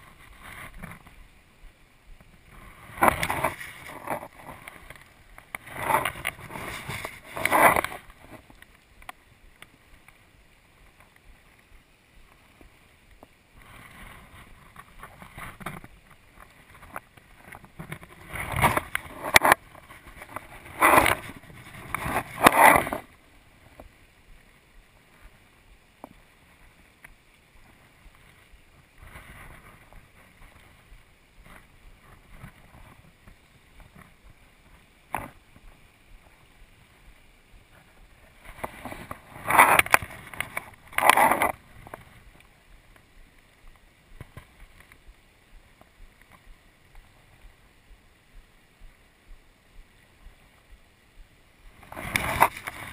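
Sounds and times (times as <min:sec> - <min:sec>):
faint hiss of river water: 0:00.0 - 0:52.9.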